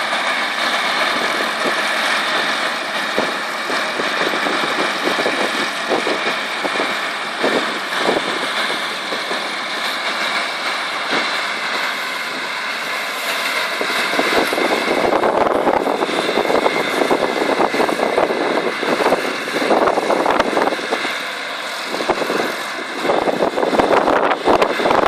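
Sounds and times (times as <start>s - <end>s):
baler machine whine: 0.0s - 25.0s
machine rattling and clattering: 0.0s - 25.0s.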